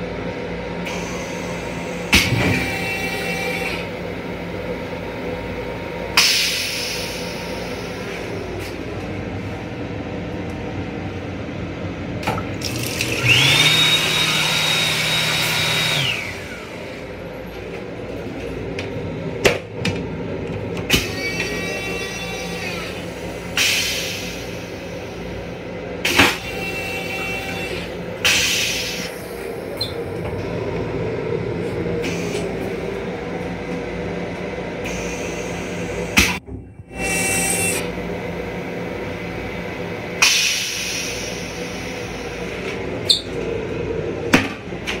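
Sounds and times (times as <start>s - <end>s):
electric railcar hum: 0.0s - 12.4s, 15.6s - 45.0s.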